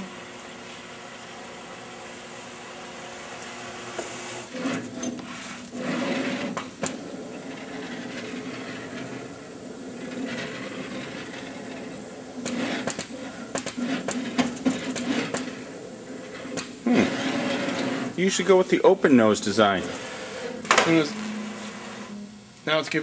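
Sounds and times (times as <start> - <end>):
machine hum: 0.0 - 23.0
motor whine: 0.0 - 23.0.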